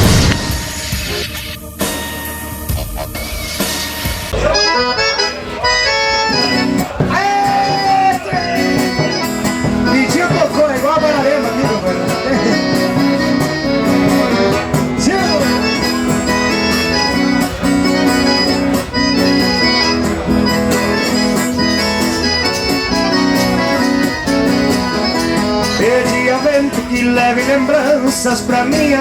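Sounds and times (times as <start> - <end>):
accordion playing chords: 0.0 - 29.0
bass: 0.0 - 29.0
guitar: 0.0 - 29.0.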